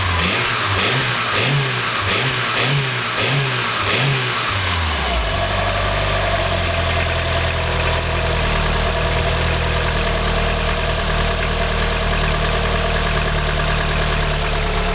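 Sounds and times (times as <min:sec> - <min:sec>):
car engine idling with knocking: 0:00.0 - 0:14.9.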